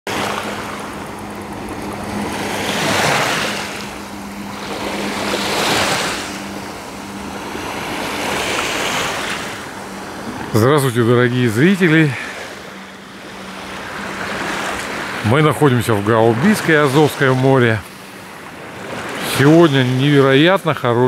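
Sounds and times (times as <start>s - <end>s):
faint steady hum: 0.1s - 21.0s
small waves washing onto shore: 0.1s - 21.0s.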